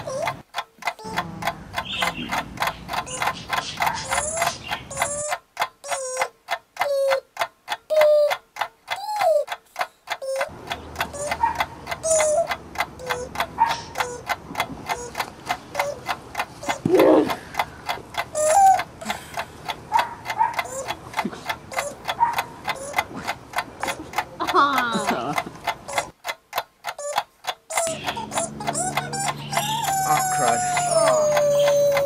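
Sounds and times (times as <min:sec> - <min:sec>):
clock ticking rapidly: 0:00.0 - 0:32.0.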